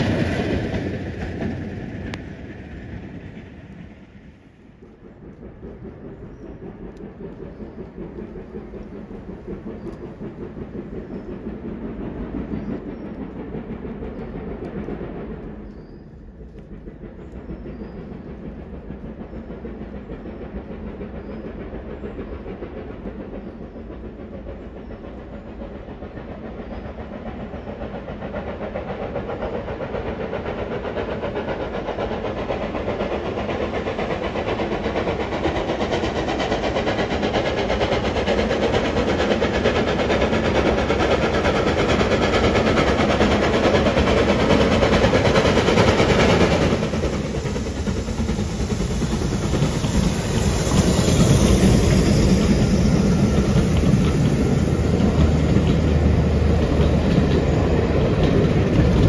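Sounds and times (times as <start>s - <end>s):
steam locomotive approaching: 0.0s - 59.0s.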